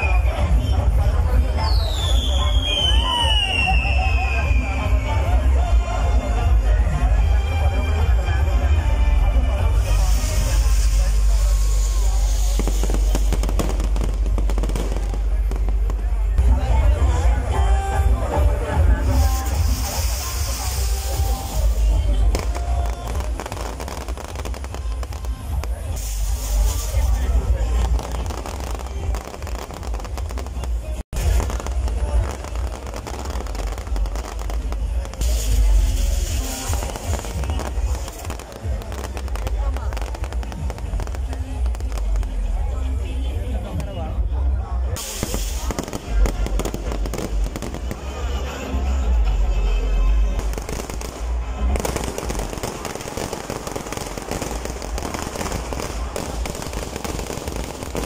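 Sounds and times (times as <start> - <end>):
firework crackle: 0.0 - 58.0.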